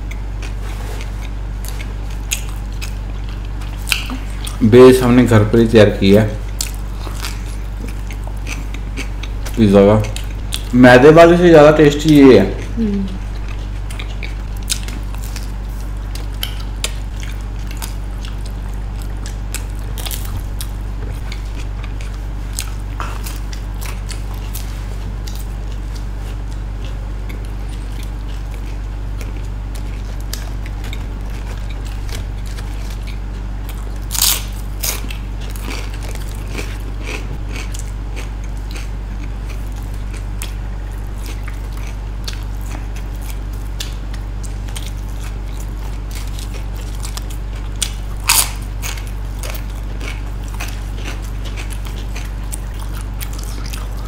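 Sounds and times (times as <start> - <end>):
people chewing crunchy pizza: 0.0 - 54.0
steady low hum: 0.0 - 54.0.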